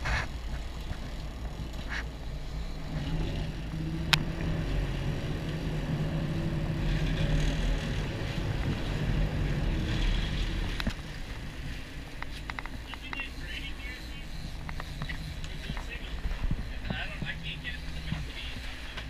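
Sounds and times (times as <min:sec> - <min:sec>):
boat engines running: 0:00.0 - 0:19.0
water noise: 0:00.0 - 0:19.0
wind: 0:00.0 - 0:19.0.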